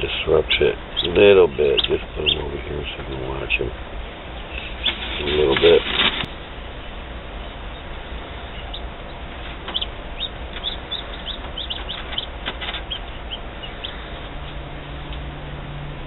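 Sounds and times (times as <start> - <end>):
chicks peeping: 0.0 - 15.2
incubator hum: 0.0 - 16.0.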